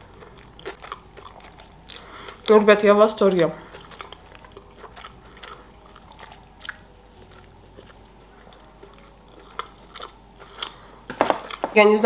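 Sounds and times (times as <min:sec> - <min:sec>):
person chewing with wet clicks: 0:00.0 - 0:11.6.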